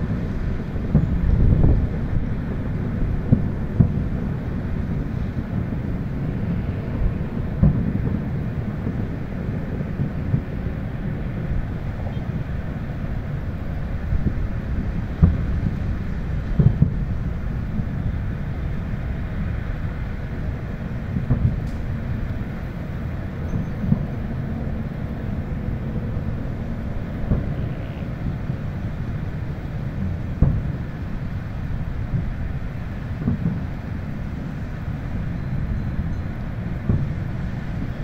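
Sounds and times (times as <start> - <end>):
distant fireworks bangs: 0.0 - 12.9, 14.1 - 19.4, 20.3 - 38.0
low steady rumble: 0.0 - 38.0.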